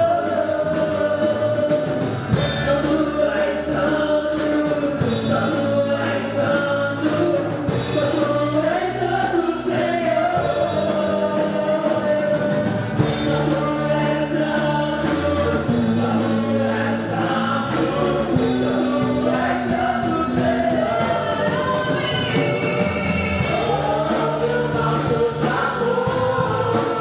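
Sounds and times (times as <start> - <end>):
gospel choir singing: 0.0 - 27.0
instrumental accompaniment: 0.0 - 27.0.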